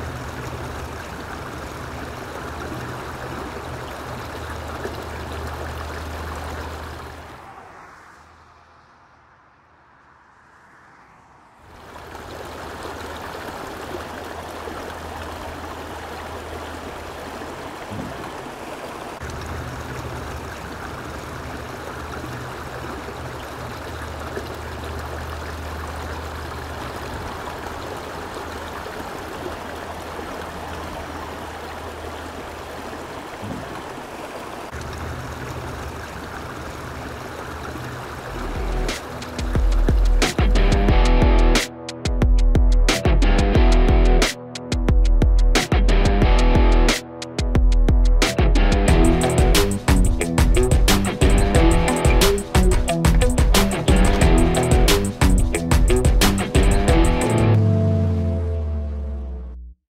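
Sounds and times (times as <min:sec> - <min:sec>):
creek water running: 0:00.0 - 0:09.0, 0:11.6 - 0:41.7, 0:48.2 - 0:58.7.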